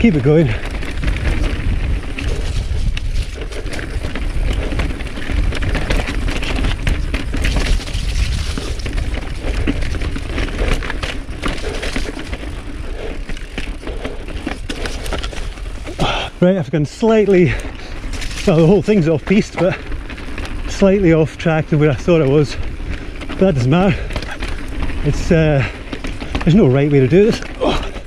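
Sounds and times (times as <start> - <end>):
steady low rumble: 0.0 - 27.0
bike clicking and rattling: 0.0 - 28.0
bike tyres rolling over rock: 0.0 - 28.0.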